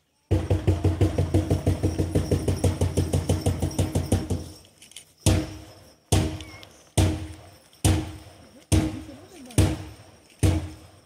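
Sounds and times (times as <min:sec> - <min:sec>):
drum beaten rapidly: 0:00.3 - 0:04.5, 0:05.3 - 0:10.9
heavy drum beats: 0:00.3 - 0:04.6, 0:05.3 - 0:11.0.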